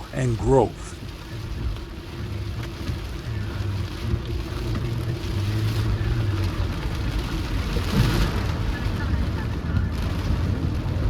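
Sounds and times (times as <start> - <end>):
car engine and road drone: 0.0 - 11.0
rain hiss: 0.0 - 11.0
wet tyres on road: 0.0 - 11.0.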